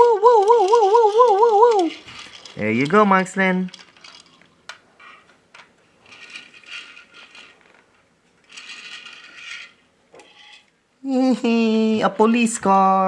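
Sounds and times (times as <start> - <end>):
plastic toy gears ratcheting: 0.0 - 10.6.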